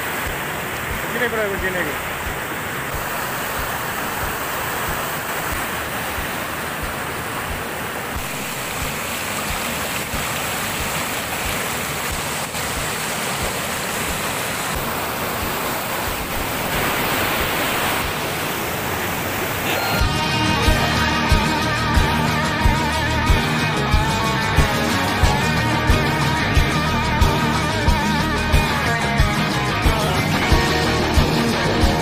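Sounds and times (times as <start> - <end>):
river rapids rushing: 0.0 - 28.2.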